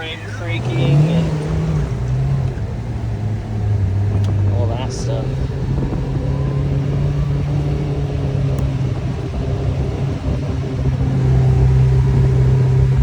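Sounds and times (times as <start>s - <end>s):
engine running heard from cab: 0.0s - 13.0s.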